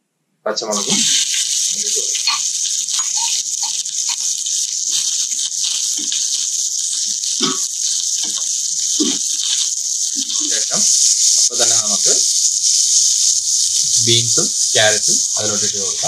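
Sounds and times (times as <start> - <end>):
onions sizzling in a skillet: 0.7 - 16.0.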